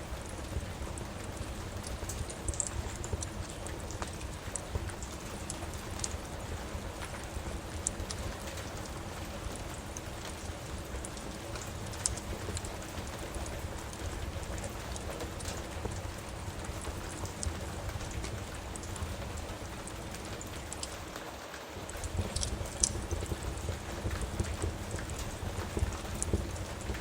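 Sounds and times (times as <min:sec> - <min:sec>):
steady rain: 0:00.0 - 0:27.0
wood fire crackling and popping: 0:00.0 - 0:27.0.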